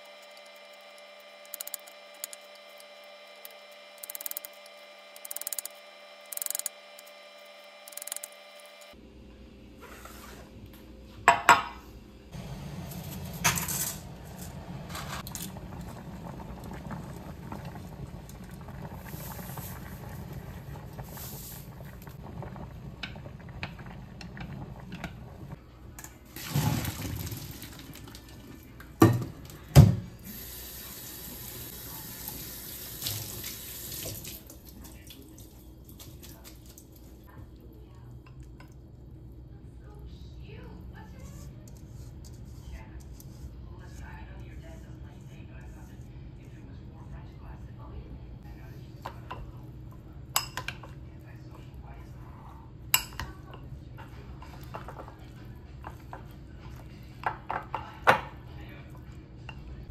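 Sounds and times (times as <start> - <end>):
water boiling hum: 0.0 - 59.9.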